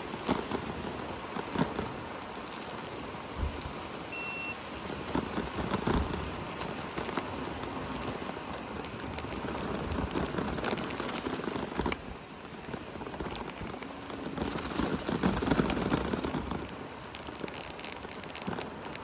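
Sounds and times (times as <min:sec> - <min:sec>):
tyres rolling on wet sand: 0:00.0 - 0:19.0.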